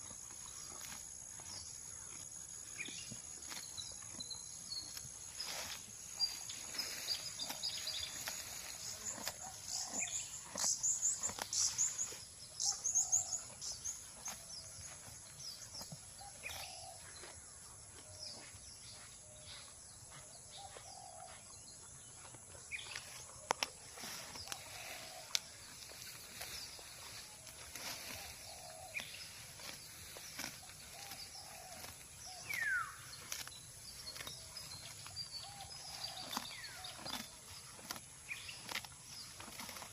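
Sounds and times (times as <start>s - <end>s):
cow tearing and chewing grass: 0.0s - 39.9s
small birds chirping: 0.0s - 39.9s.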